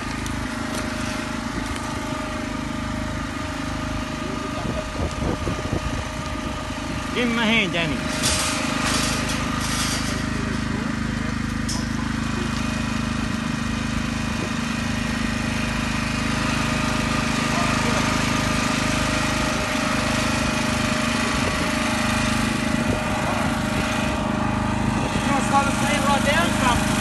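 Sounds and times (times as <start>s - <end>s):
shearing machine motor humming: 0.0s - 27.0s.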